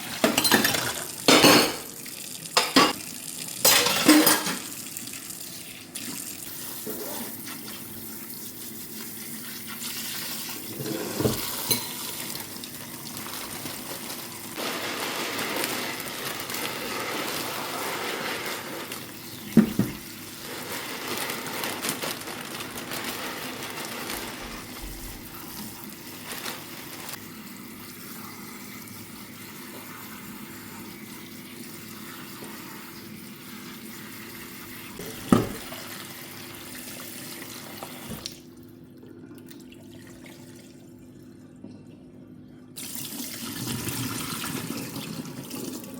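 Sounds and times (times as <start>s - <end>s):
water running from tap into sink: 0.0s - 21.8s, 22.6s - 38.5s, 42.8s - 45.9s.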